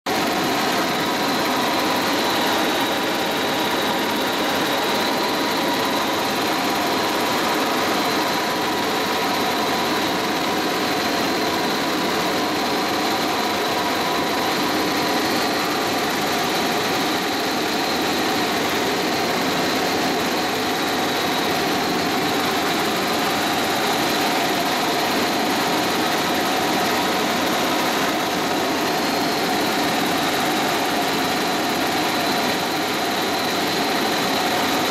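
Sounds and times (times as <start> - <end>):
helicopter engine and rotor noise: 0.1 - 34.9.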